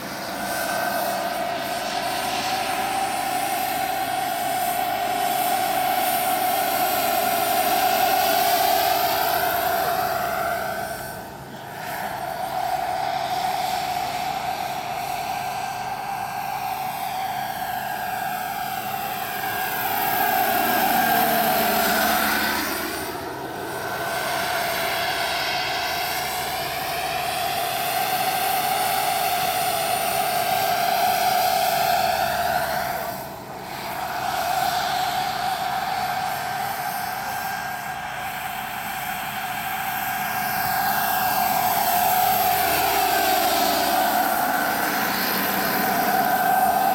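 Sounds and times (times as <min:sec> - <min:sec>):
helicopter rotor: 0:00.0 - 0:46.9
model helicopter turbine whine: 0:00.0 - 0:46.9.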